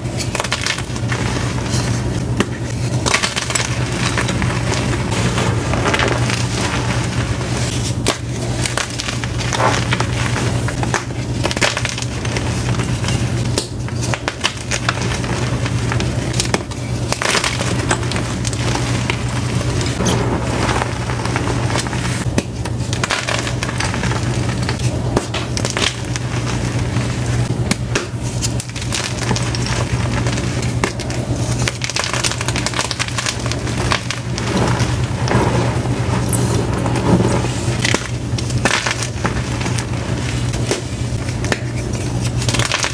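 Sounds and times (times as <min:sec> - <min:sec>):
chalk crunching and crumbling: 0:00.0 - 0:42.9
steady low hum: 0:00.0 - 0:42.9.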